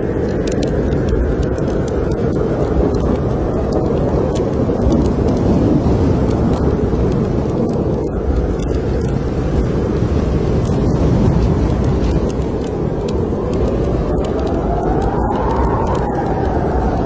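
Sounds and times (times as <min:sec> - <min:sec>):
blizzard wind rumbling: 0:00.0 - 0:17.0
wood fire crackling: 0:00.0 - 0:17.0.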